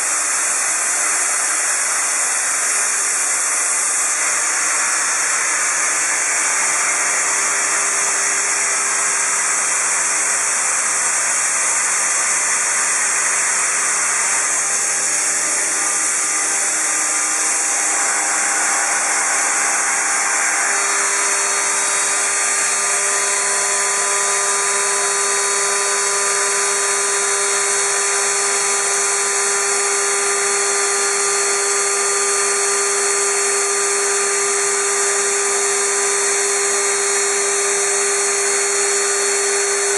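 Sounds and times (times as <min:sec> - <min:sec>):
router loud high hiss: 0:00.0 - 0:39.9
spindle whine: 0:00.0 - 0:39.9
steady hum: 0:00.0 - 0:39.9.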